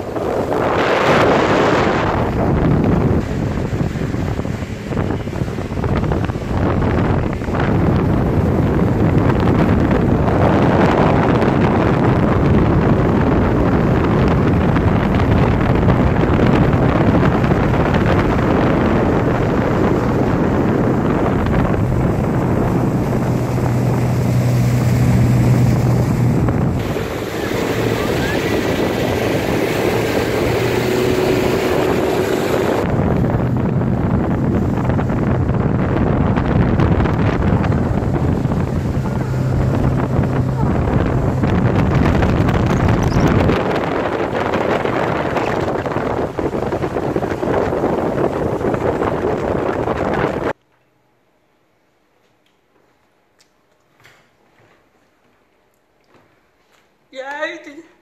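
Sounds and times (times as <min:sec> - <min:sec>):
rushing water: 0:00.0 - 0:50.6
speedboat engine humming: 0:00.0 - 0:50.6
wind buffeting microphone: 0:00.0 - 0:50.6.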